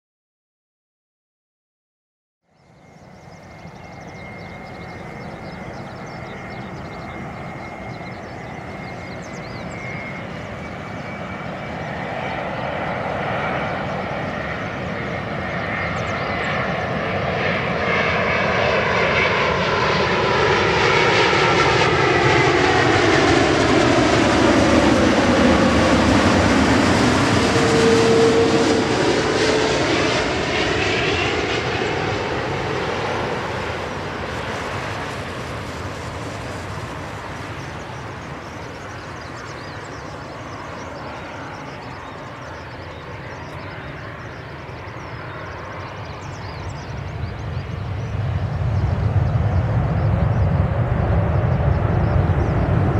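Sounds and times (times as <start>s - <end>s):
jet airliner flying overhead: 2.5s - 52.9s.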